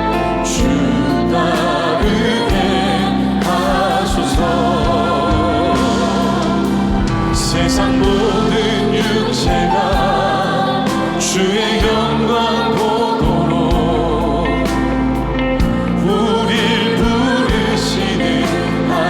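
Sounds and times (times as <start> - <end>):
singers holding sustained notes: 0.0 - 19.0
worship band playing: 0.0 - 19.0.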